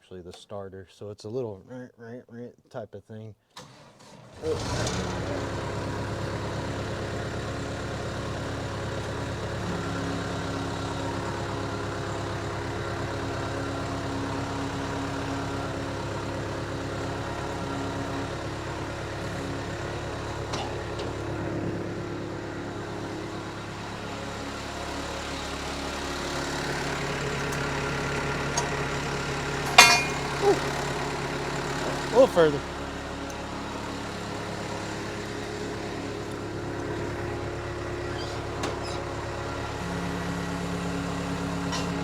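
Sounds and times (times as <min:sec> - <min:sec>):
diesel engine running: 0:04.3 - 0:42.0.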